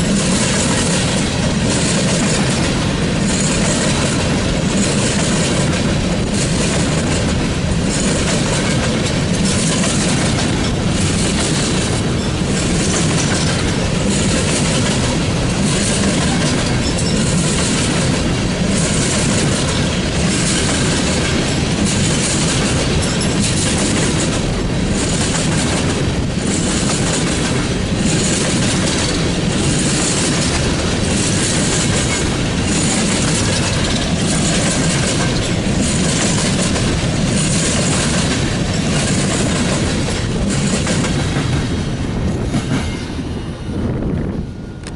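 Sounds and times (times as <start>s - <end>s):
train wheels clacking over rail joints: 0.0s - 43.2s.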